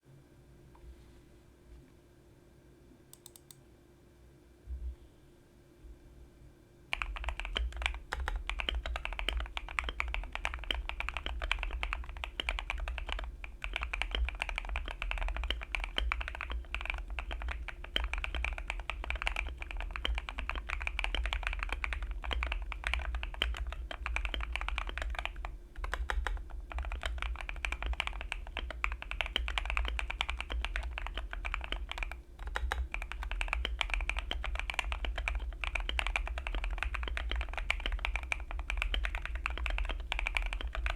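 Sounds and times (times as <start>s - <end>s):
mechanical keyboard typing: 3.2s - 3.6s, 6.9s - 40.9s.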